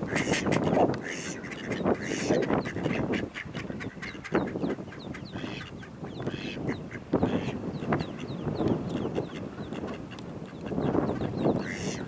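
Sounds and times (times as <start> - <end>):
ducklings peeping: 0.0 - 12.0
mallards quacking: 0.0 - 12.0.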